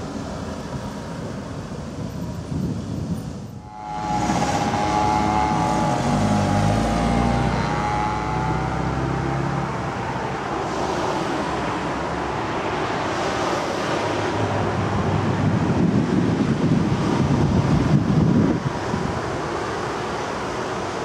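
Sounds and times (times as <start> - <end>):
tyre and traffic noise: 0.0 - 21.0
car passing by: 3.6 - 21.0.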